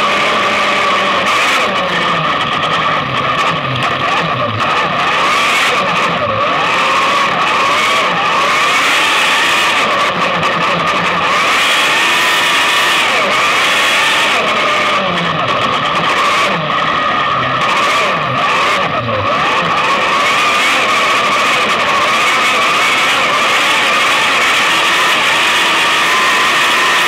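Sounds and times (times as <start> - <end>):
racing car engine at high revs: 0.0 - 27.0.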